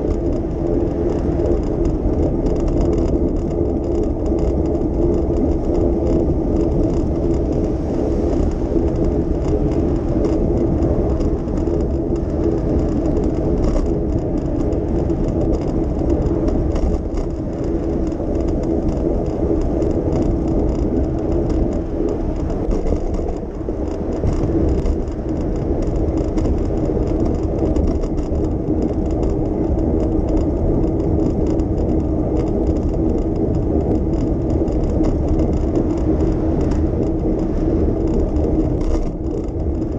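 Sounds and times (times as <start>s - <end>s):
constant low hum: 0.0s - 39.9s.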